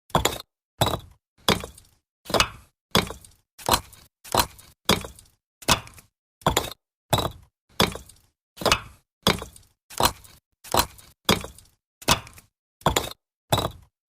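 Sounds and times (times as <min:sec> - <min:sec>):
brick knocking on brick: 0:00.1 - 0:10.2, 0:10.8 - 0:13.9.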